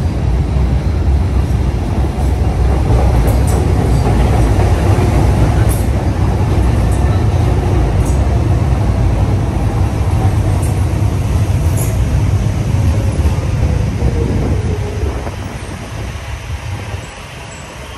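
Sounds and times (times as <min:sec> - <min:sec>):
faint train whine: 0:00.0 - 0:17.9
steel wheels rumbling on rails: 0:00.0 - 0:17.9.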